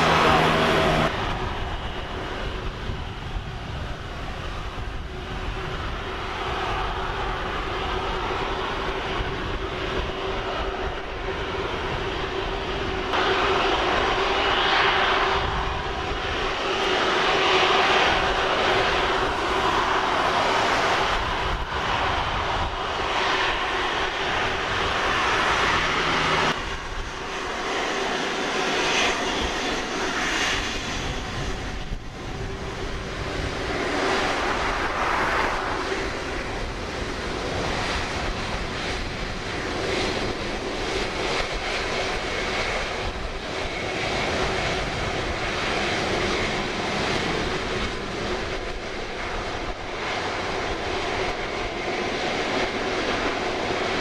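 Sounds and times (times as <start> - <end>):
jet engine whine and rumble: 0.0 - 54.0.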